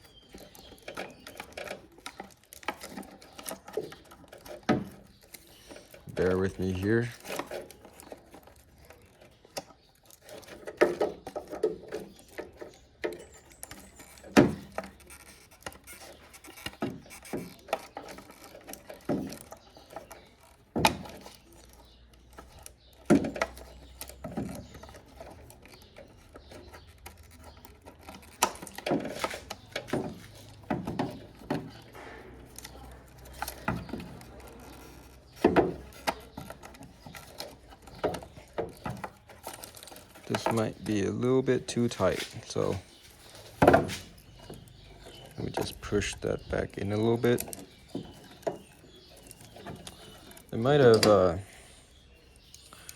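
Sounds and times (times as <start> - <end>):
plastic clicks and knocks: 0.0 - 51.4.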